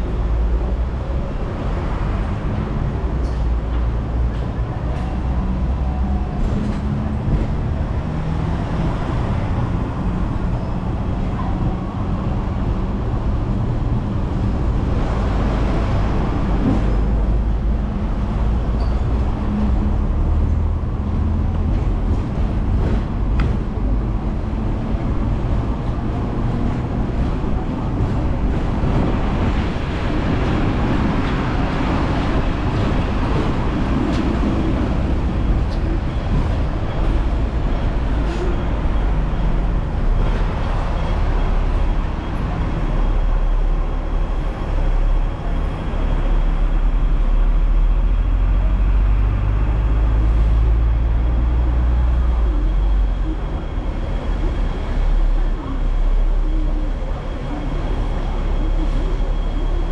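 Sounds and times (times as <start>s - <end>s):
tram motor and wheels rumbling: 0.0s - 59.9s.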